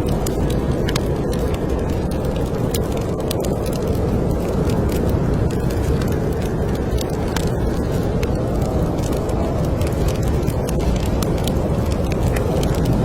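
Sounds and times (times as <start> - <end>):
snowstorm wind rumble: 0.0 - 13.0
wood fire crackling: 0.0 - 13.0.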